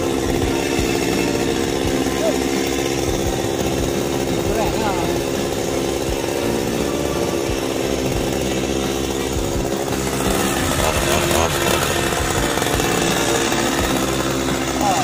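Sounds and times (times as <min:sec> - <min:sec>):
chainsaw idling: 0:00.0 - 0:15.0.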